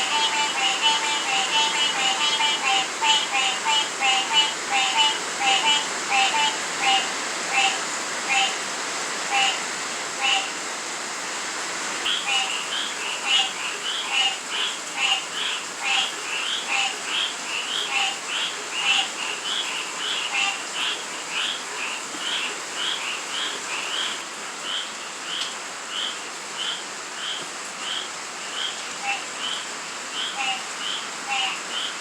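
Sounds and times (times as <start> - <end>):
frogs and toads calling: 0.0 - 10.6, 12.0 - 32.0
rain hissing: 0.0 - 32.0.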